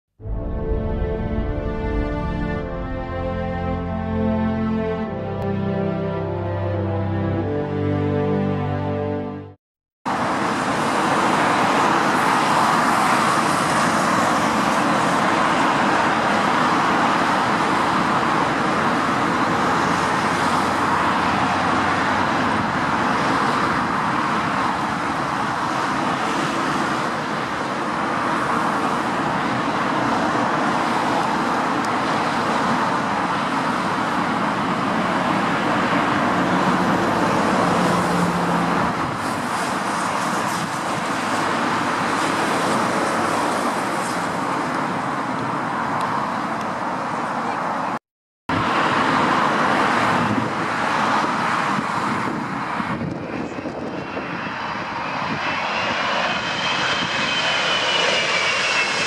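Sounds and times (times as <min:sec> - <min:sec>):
jet engines roaring: 0:10.1 - 0:59.0.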